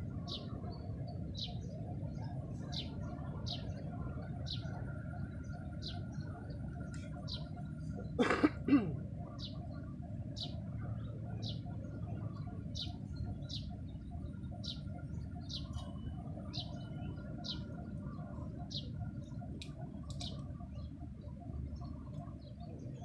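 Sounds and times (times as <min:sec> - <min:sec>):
low outdoor background: 0:00.0 - 0:23.0
bird chirping: 0:00.1 - 0:21.0.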